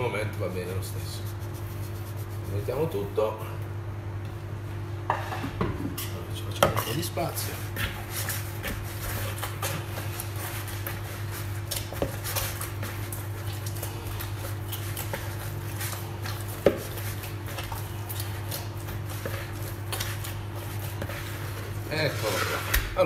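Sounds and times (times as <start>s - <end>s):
hands kneading dough: 0.6s - 3.2s, 6.3s - 23.0s.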